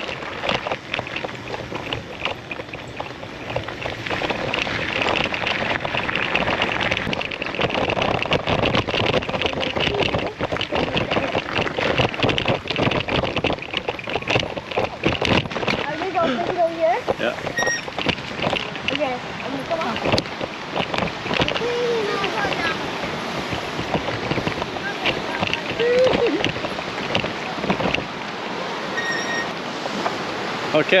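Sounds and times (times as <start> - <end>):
bike knocks and rattles: 0.0 - 28.2
tyres crunching on dirt: 0.0 - 28.5
wind noise on microphone: 0.0 - 31.0.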